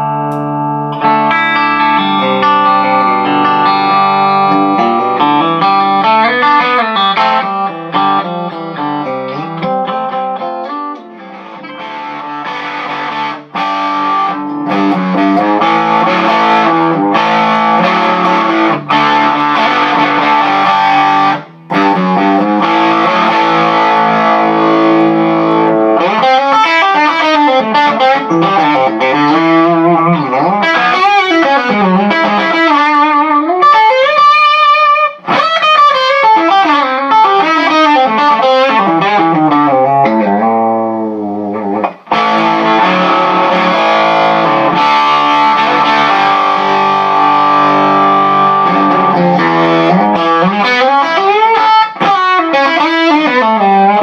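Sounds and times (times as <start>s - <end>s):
electric guitar lead lines: 0.0s - 54.0s
electric guitar ringing chords: 0.0s - 54.0s.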